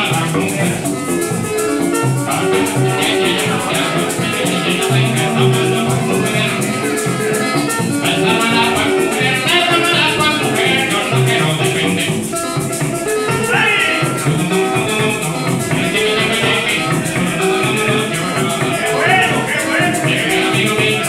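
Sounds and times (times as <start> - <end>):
harp plucking fast runs: 0.0 - 21.0
maracas shaken: 0.0 - 21.0.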